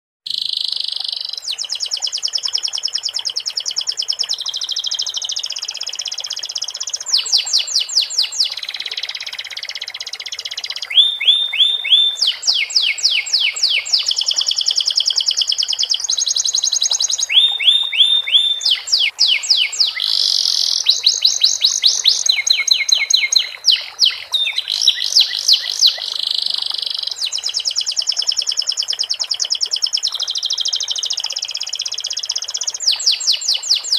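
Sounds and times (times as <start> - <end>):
canary singing trills: 0.3 - 33.9.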